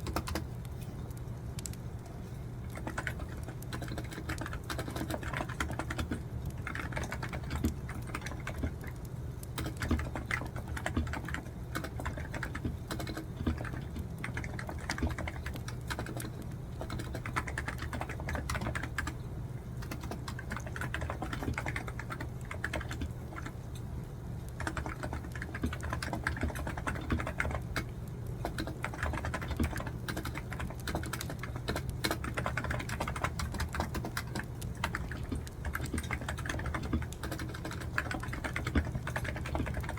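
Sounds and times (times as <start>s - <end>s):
typing on computer keyboard: 0.0s - 0.6s, 2.6s - 19.2s, 19.8s - 23.6s, 24.5s - 39.9s
steady low hum: 0.0s - 39.9s.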